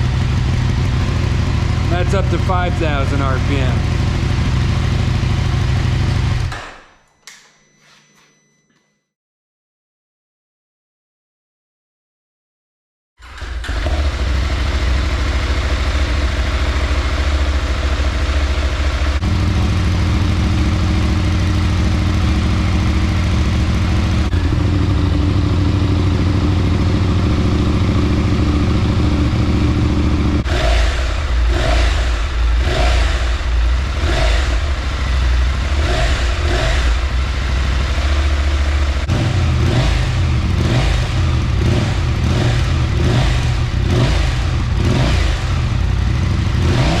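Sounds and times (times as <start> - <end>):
motorcycle engine revving: 0.0 - 6.5, 13.3 - 47.0.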